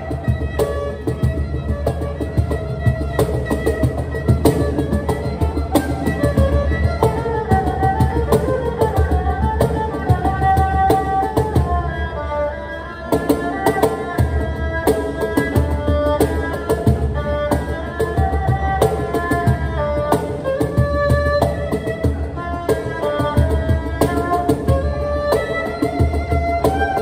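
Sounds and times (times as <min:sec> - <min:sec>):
cajon hand drumming: 0:00.0 - 0:12.0, 0:13.1 - 0:27.0
erhu melody: 0:00.0 - 0:27.0.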